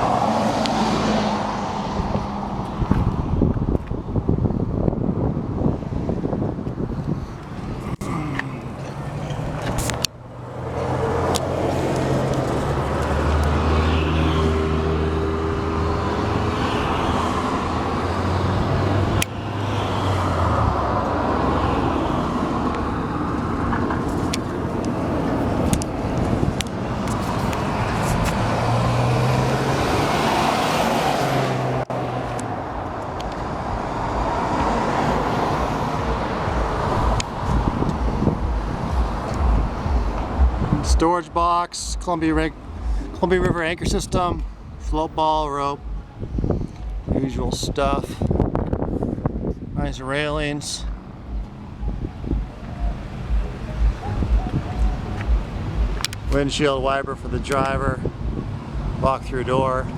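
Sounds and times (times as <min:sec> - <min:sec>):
road traffic passing: 0:00.0 - 0:59.9
low engine hum: 0:06.3 - 0:59.9.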